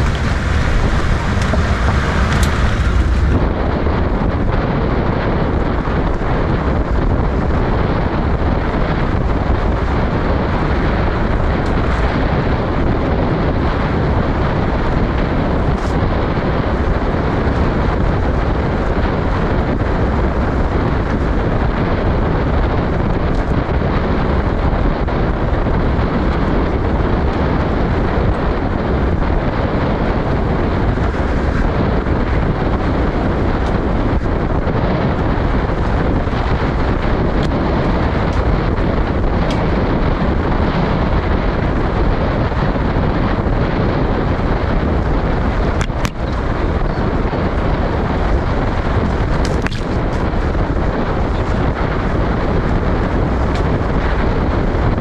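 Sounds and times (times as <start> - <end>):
jeep rumbling on dirt track: 0.0 - 55.0
wind noise on microphone: 0.0 - 55.0.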